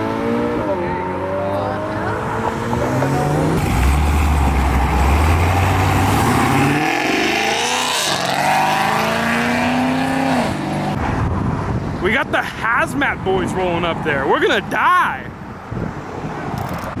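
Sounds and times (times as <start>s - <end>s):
car engines revving: 0.0s - 16.9s.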